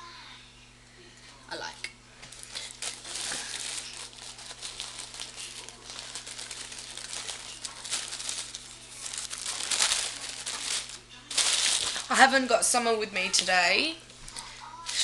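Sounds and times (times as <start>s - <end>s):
paper packaging crinkling: 2.3s - 15.0s.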